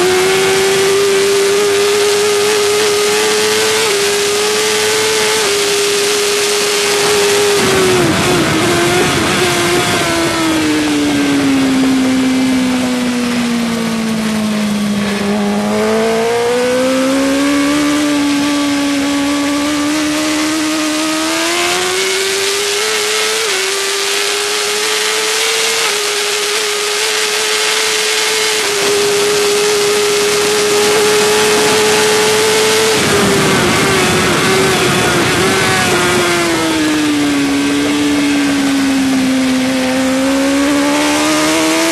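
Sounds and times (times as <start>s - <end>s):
wind rush: 0.0s - 24.7s, 28.2s - 41.9s
motorcycle engine at racing speed: 0.0s - 41.9s.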